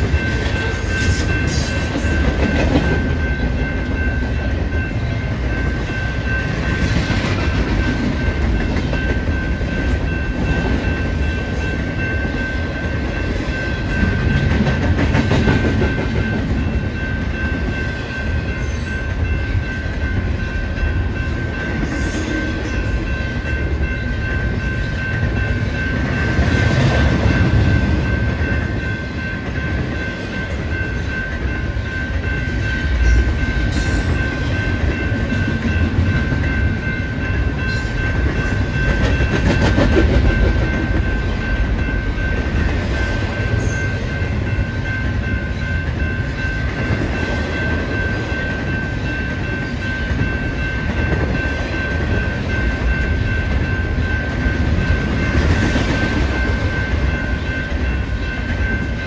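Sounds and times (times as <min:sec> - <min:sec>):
crossing warning bell ringing: 0:00.0 - 0:59.0
freight train rumbling past: 0:00.0 - 0:59.0.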